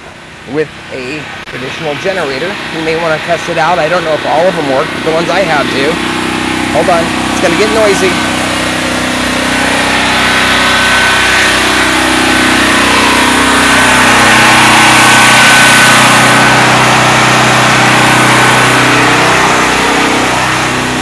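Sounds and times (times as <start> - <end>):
generator engines humming: 0.0 - 21.0.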